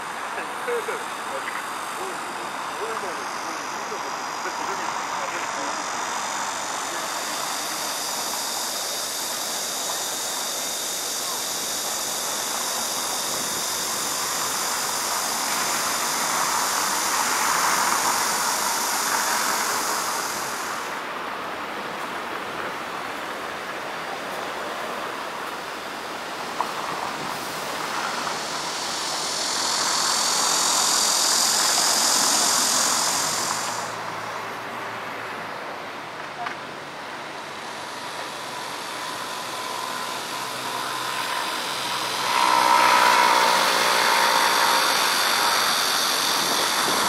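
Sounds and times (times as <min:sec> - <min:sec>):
high steady buzz: 0:00.0 - 0:47.0
road traffic: 0:00.0 - 0:47.0.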